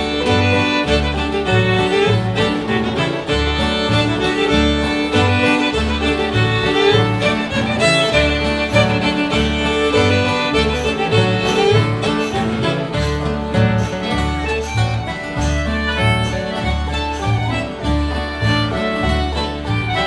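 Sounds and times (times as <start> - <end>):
acoustic guitar strumming: 0.0 - 20.0
fiddle melody: 0.0 - 20.0.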